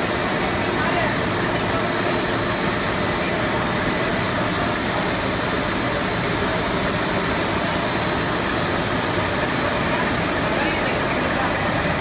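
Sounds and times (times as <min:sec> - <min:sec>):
steady machine noise: 0:00.0 - 0:12.0.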